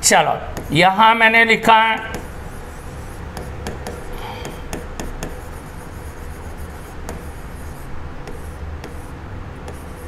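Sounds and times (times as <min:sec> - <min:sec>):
pen tapping and scratching: 0:00.5 - 0:00.8, 0:02.0 - 0:10.0.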